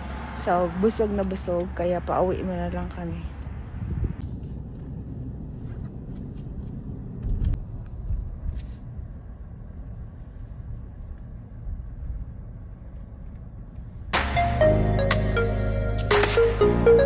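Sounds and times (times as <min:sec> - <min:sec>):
car driving low rumble: 0:00.0 - 0:14.2.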